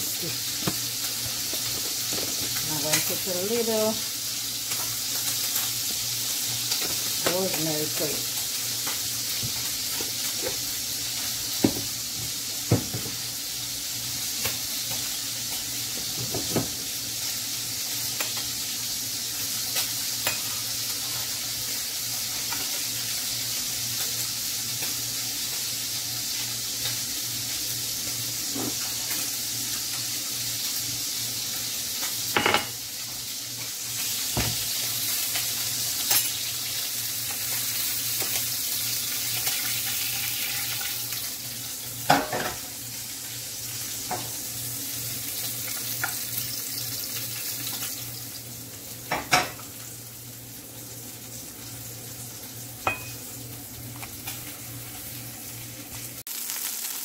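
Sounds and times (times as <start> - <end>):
food sizzling in a pot: 0.0 - 57.0.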